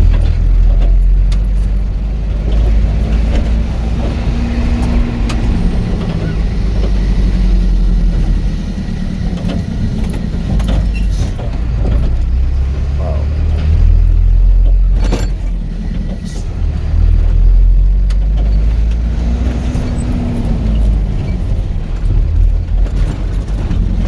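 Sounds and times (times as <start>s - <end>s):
engine and road rumble: 0.0s - 24.0s
vehicle rattles and knocks: 0.0s - 24.0s.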